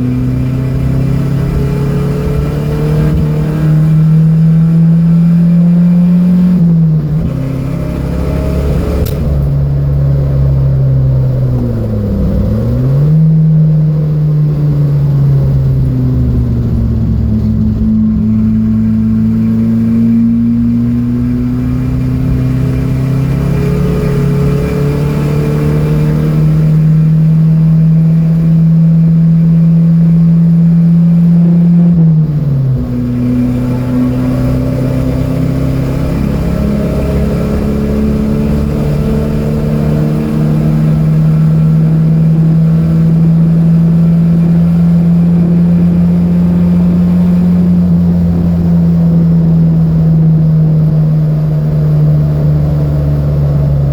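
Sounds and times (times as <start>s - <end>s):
car engine running hard: 0.0s - 53.9s.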